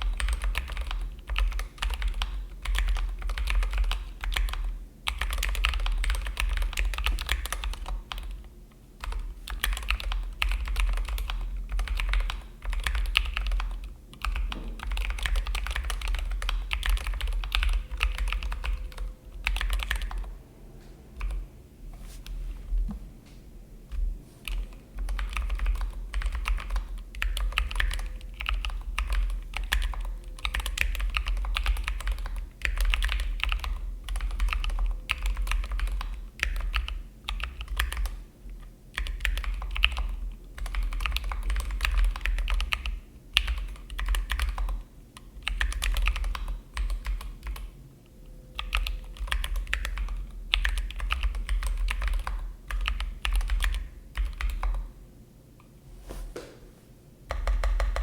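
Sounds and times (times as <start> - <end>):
mechanical keyboard typing: 0.0 - 20.3, 24.4 - 38.2, 39.0 - 44.8, 45.4 - 47.7, 48.6 - 54.9, 57.3 - 58.0.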